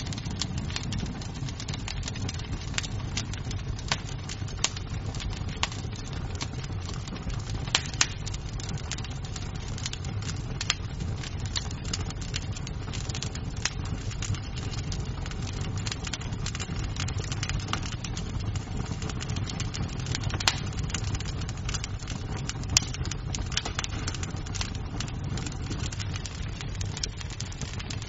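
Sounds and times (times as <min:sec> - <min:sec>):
sharp fire pops: 0:00.0 - 0:28.0
wood fire crackling: 0:00.0 - 0:28.0.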